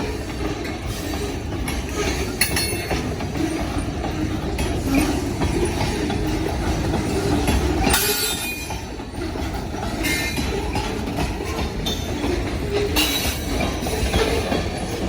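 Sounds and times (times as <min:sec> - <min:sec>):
high wheel squeals: 0:00.0 - 0:15.0
train wheels rumbling on track: 0:00.0 - 0:15.0.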